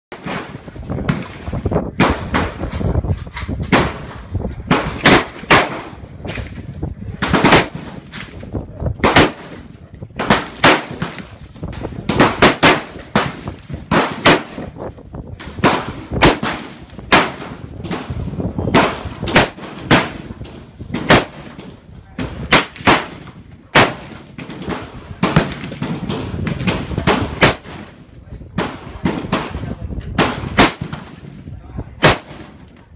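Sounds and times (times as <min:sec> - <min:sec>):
rifle shots: 0:00.1 - 0:02.9, 0:03.7 - 0:06.6, 0:07.2 - 0:28.0, 0:28.6 - 0:31.3, 0:32.0 - 0:32.7.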